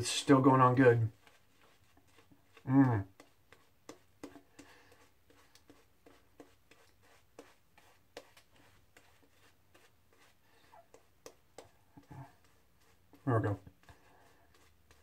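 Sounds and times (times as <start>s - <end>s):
shaving brush scratching on skin: 0.1s - 15.0s.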